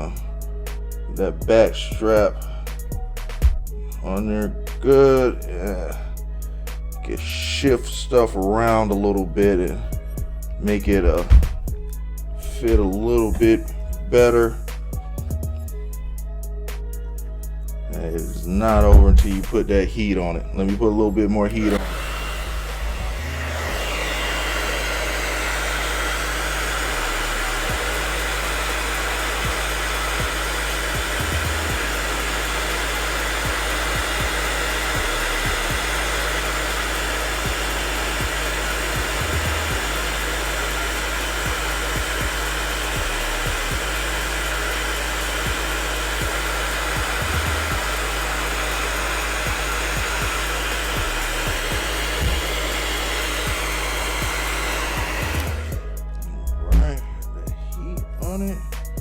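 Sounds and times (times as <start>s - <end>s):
hair dryer blowing: 0.0s - 58.2s.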